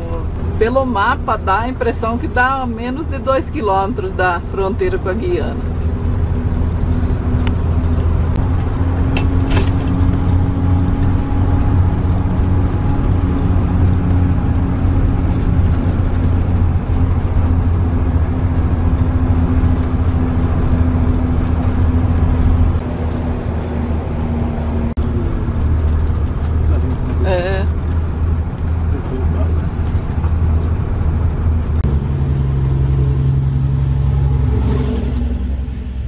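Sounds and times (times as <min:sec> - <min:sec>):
engine pulling hard uphill: 0:00.0 - 0:36.0
road noise inside cab: 0:00.0 - 0:36.0.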